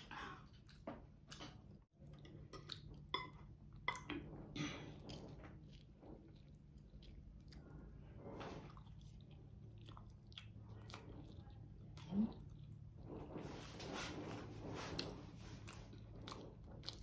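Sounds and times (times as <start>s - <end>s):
person chewing: 0.5s - 4.2s, 5.0s - 13.0s, 15.0s - 17.0s.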